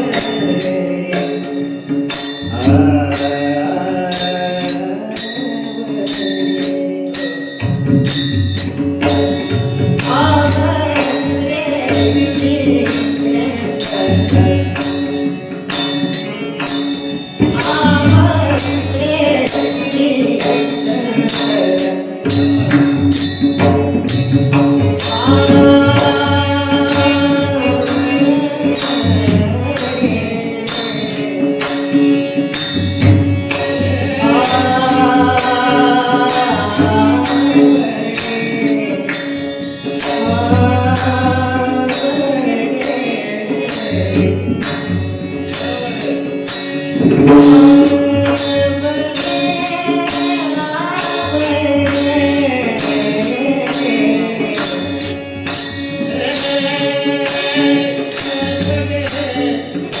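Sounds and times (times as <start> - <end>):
devotional singing: 0.0 - 8.1, 9.0 - 15.5, 17.4 - 23.3, 23.9 - 60.0.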